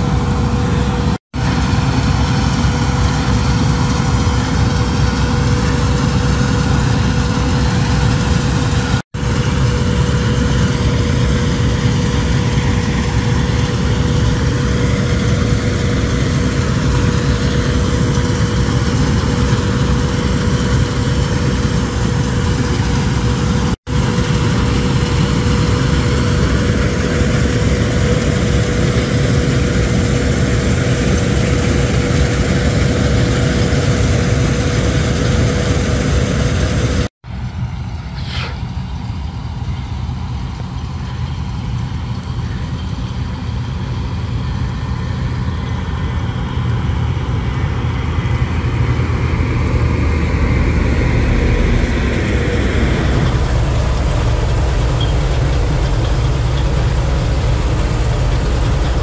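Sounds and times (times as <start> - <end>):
combine harvester engine drone: 0.0 - 59.0
thin steady whine: 0.0 - 59.0.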